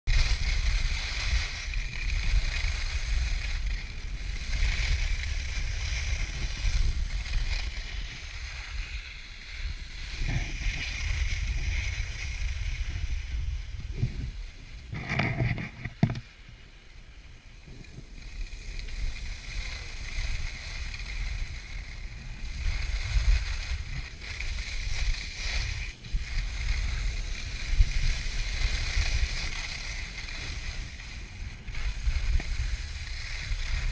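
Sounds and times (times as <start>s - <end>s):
wind rumbling on microphone: 0.0s - 33.9s
skis scraping over snow: 0.1s - 33.9s.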